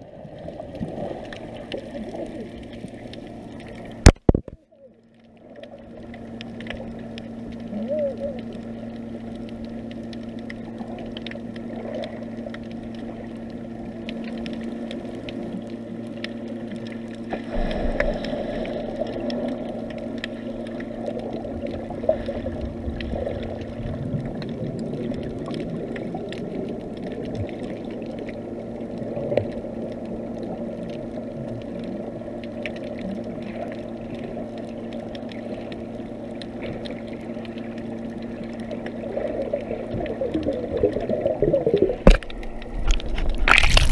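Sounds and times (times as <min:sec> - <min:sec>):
muffled underwater water wash: 0:00.0 - 0:43.9
steady low hum: 0:00.0 - 0:43.9
faint clicks: 0:00.7 - 0:23.2, 0:24.1 - 0:39.0.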